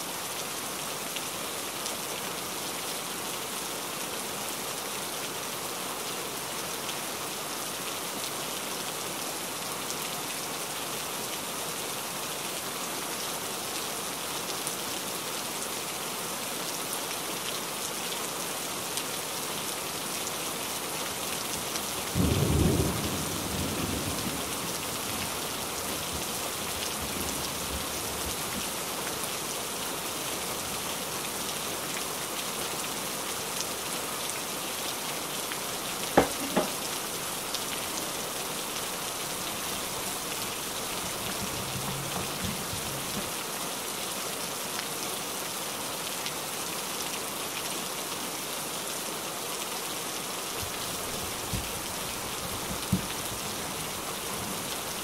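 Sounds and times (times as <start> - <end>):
rain-like hiss: 0.0 - 55.0.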